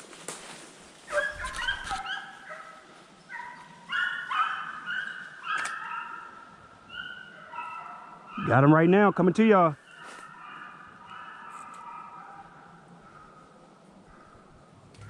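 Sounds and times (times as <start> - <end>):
hounds baying: 1.1 - 8.8, 9.8 - 15.0.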